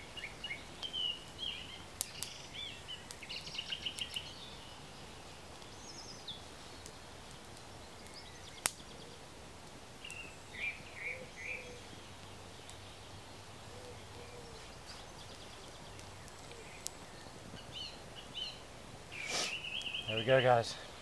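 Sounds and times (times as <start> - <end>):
birds chirping and trilling: 0.0 - 9.4, 10.0 - 21.0
steady outdoor hiss: 0.0 - 21.0.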